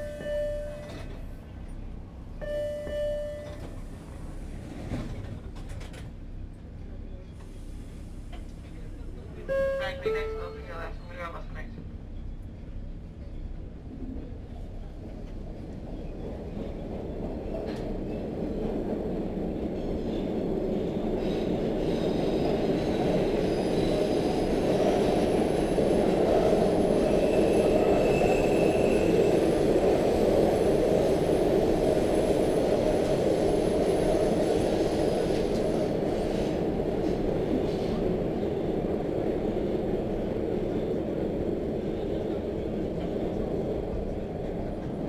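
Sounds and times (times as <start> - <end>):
metro train rumbling on rails: 0.0 - 45.0.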